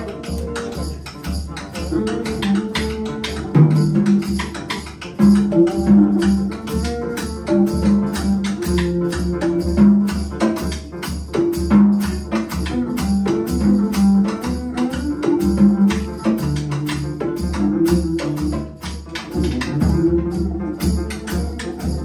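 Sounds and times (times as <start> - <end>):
bowed double bass: 0.0 - 22.0
drum kit beat: 0.0 - 22.0
piano: 0.0 - 22.0.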